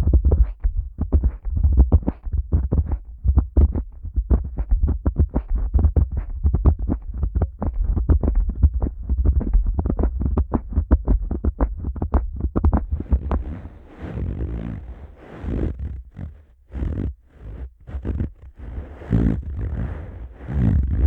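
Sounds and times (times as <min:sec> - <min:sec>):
fingers rubbing microphone: 0:01.1 - 0:21.0.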